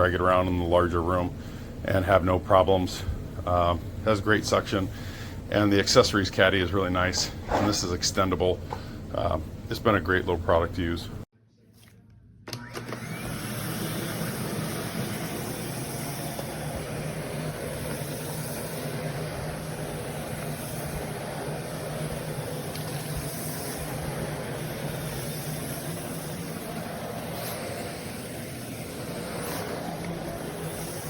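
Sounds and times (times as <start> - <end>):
vacuum cleaner running: 4.3 - 10.8, 12.5 - 31.0.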